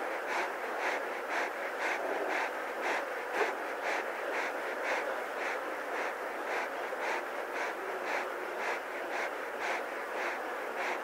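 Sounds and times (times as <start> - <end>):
lion panting: 0.0 - 11.0.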